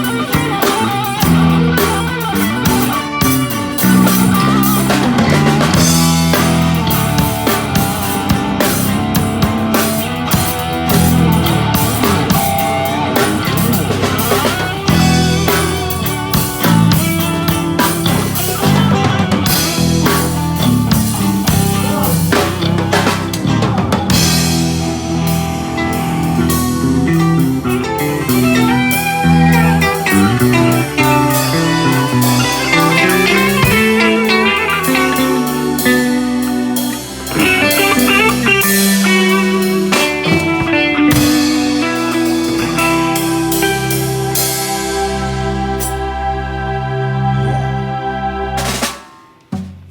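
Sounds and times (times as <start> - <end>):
drum kit beat: 0.0 - 46.0, 48.6 - 49.9
electric guitar: 0.0 - 49.5
bass guitar: 0.0 - 49.9.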